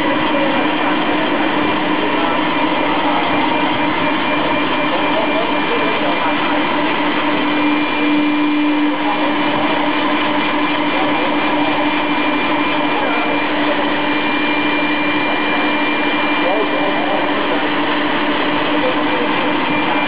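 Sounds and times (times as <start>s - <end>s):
high steady machine whine: 0.0s - 20.0s
machine running with hum: 0.0s - 20.0s.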